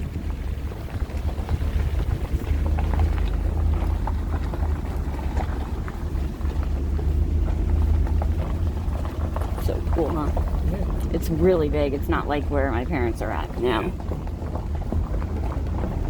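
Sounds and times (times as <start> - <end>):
vehicle driving slowly: 0.0 - 16.0.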